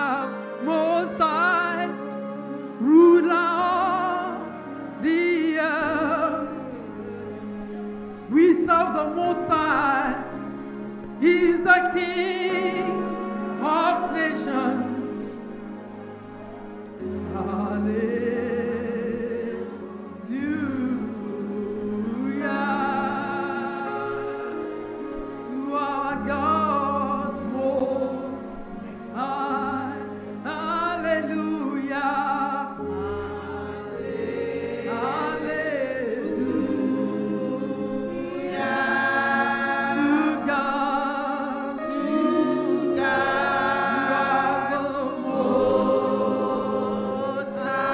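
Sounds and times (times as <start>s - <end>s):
bass and chord accompaniment: 0.0s - 47.9s
voices singing gospel: 0.0s - 47.9s.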